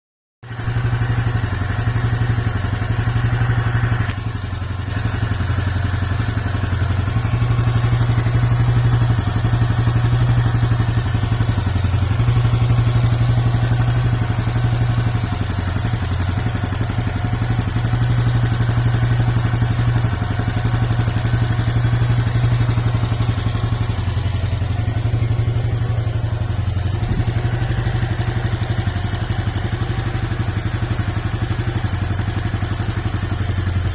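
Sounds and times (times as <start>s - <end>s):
motorcycle engine idling with rattle: 0.4s - 33.9s.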